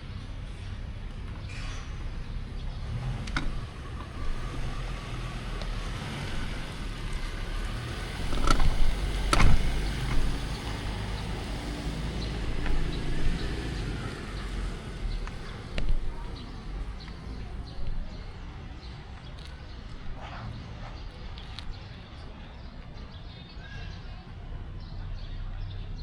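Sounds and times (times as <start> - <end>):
cars passing: 0.0 - 23.3
wind and road noise: 0.0 - 23.4.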